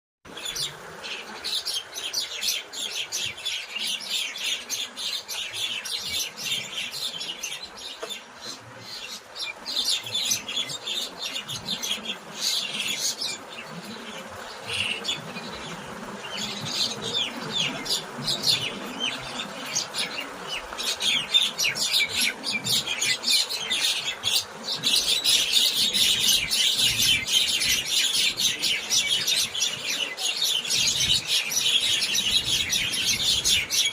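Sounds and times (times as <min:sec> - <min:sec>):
small birds chirping: 0:00.3 - 0:33.9.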